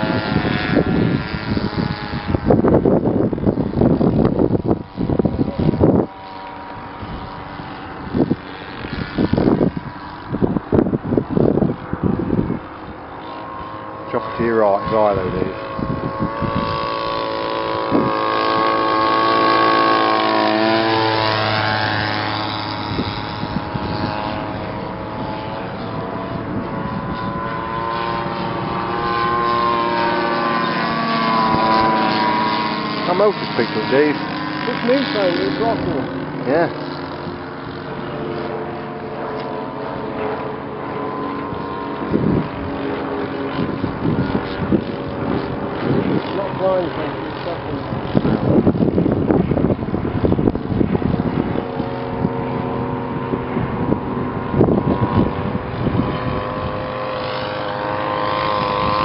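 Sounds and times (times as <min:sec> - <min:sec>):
model plane engine fly-past: 0:00.0 - 0:59.0.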